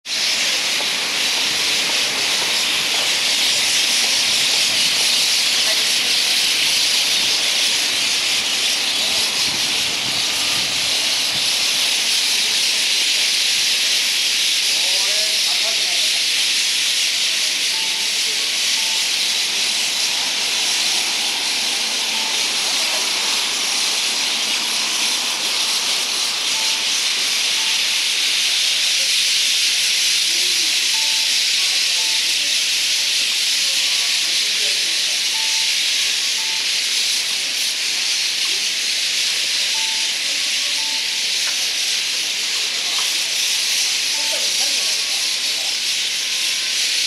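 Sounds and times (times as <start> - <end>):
flock of birds chattering: 0.1 - 47.0.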